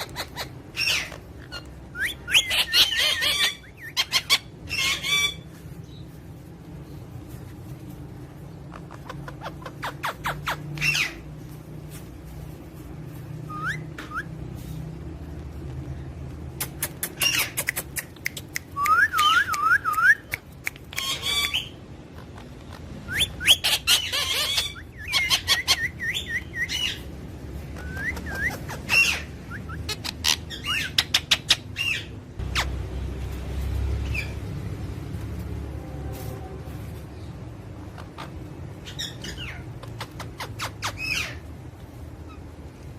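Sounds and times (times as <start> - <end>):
parrots chirping and squawking: 0.0 - 15.5, 16.5 - 18.4, 20.8 - 35.3, 37.6 - 42.9.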